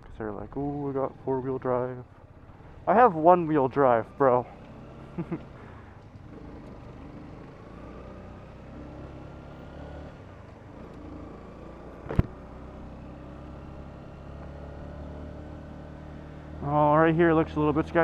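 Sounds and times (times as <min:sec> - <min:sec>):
motorcycle engine running: 0:00.5 - 0:18.0.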